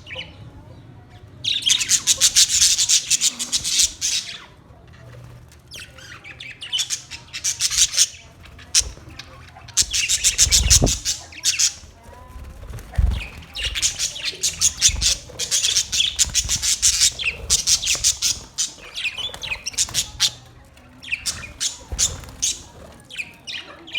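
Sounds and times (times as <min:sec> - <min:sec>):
parrots squawking: 0:01.4 - 0:04.6, 0:05.7 - 0:23.9.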